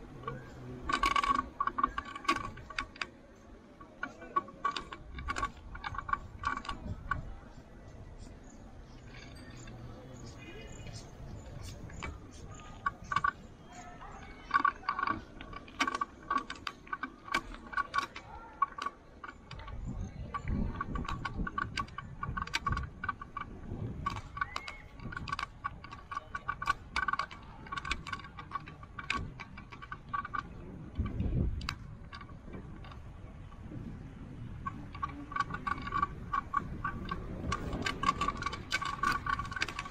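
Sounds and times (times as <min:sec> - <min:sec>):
wind rumble on microphone: 0:00.0 - 0:16.6, 0:17.5 - 0:39.9
bicycle rattling and clicking: 0:00.0 - 0:39.9.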